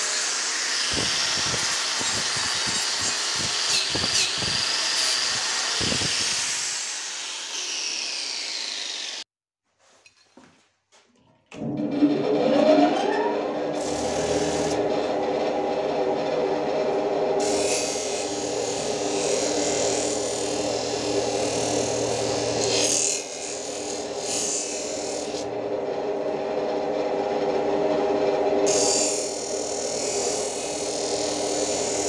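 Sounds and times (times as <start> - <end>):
blade grinding on wheel: 0.0 - 9.2, 11.9 - 32.0
grinder motor humming: 0.0 - 9.2, 13.3 - 32.0.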